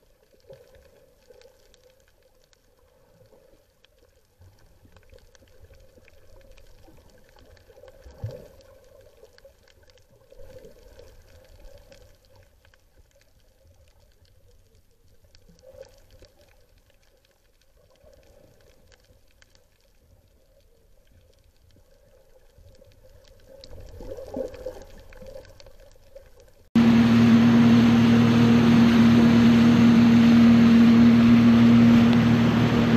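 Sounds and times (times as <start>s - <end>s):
underwater water sloshing: 0.0s - 26.7s.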